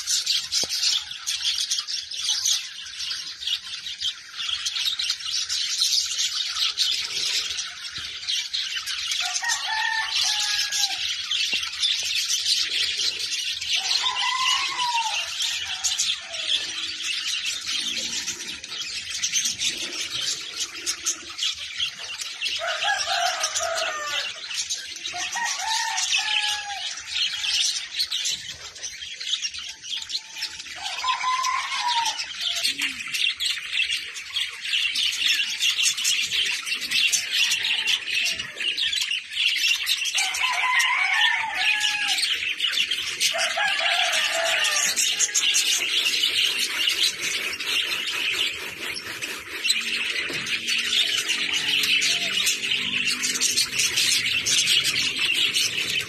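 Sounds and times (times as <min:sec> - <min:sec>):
lovebirds chattering high chirps: 0:00.0 - 0:56.0.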